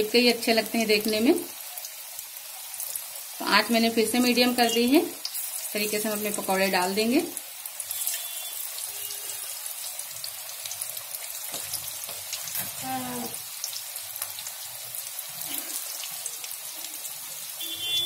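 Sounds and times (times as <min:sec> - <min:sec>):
oil sizzling with crackles: 0:00.0 - 0:18.0.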